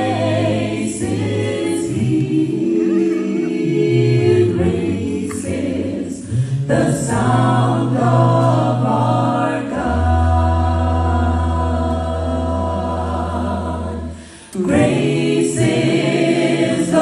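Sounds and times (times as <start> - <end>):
a cappella group singing in harmony: 0.0 - 17.0.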